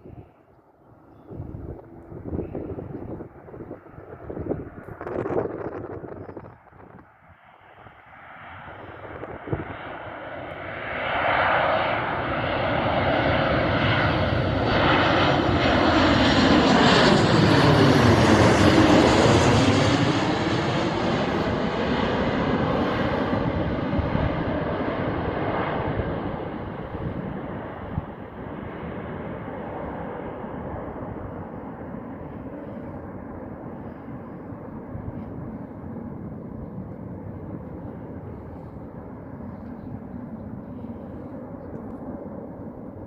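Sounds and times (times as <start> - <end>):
jet airliner flying past: 0.0 - 43.0.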